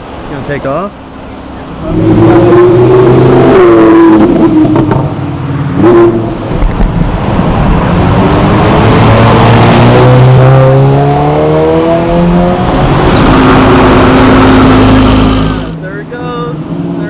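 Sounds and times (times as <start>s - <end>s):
loud car engine revving: 1.7s - 15.8s.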